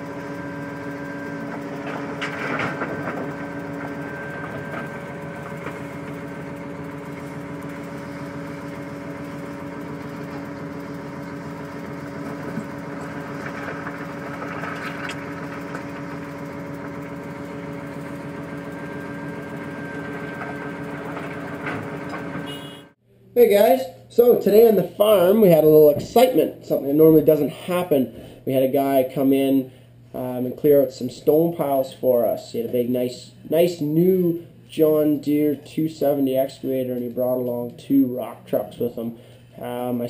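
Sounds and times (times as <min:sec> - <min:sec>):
diesel engine running with whine: 0:00.0 - 0:23.0, 0:23.6 - 0:40.0.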